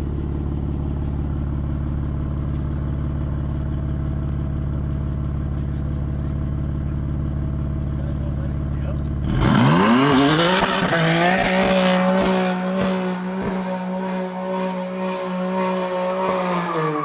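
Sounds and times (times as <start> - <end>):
car engine idling: 0.0 - 16.5.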